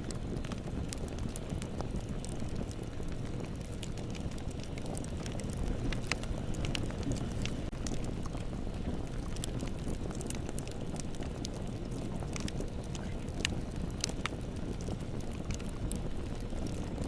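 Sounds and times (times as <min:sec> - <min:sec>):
fire crackles and pops: 0:00.0 - 0:17.0
low rumble of bonfire flames: 0:00.0 - 0:17.0.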